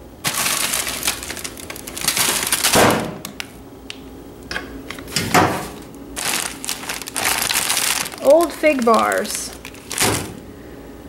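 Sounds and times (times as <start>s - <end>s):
plastic snack bags crinkling: 0.1s - 3.6s, 5.0s - 10.5s.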